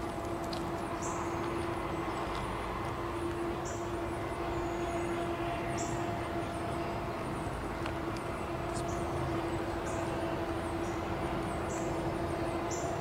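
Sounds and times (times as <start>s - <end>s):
diesel locomotive rumble: 0.0s - 13.0s
low hum: 0.0s - 13.0s.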